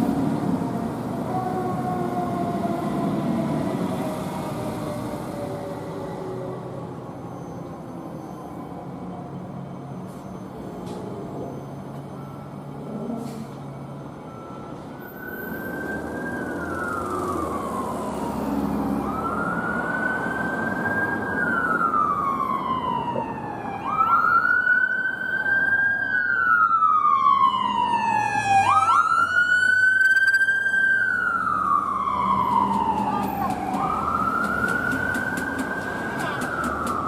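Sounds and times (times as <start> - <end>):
emergency vehicle siren wailing: 0.0 - 37.0
traffic rumble: 0.0 - 37.0.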